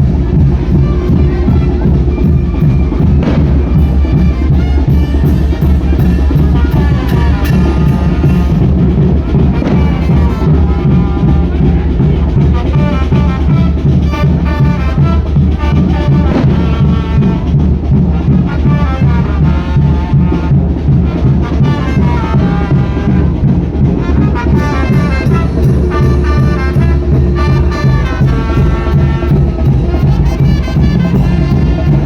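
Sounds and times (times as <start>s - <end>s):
bass drum thumping: 0.0s - 32.0s
brass band playing: 0.0s - 32.0s.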